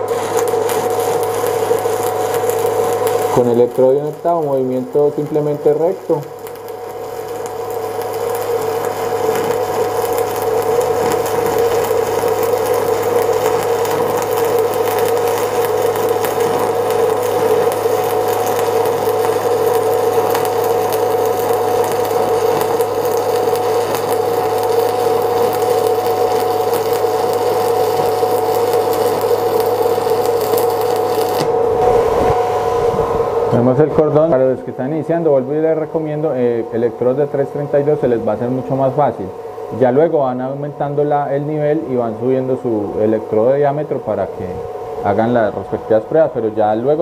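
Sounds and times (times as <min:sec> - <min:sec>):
steady hum: 0:00.0 - 0:47.0
welding arc crackling and sizzling: 0:00.0 - 0:47.0.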